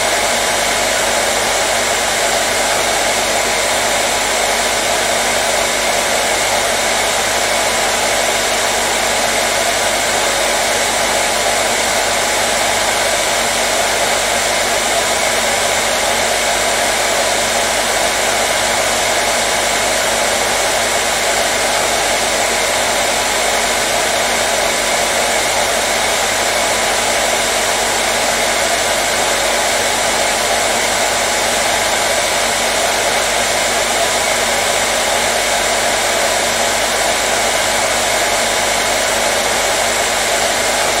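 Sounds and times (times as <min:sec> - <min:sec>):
hairdryer running: 0:00.0 - 0:41.0.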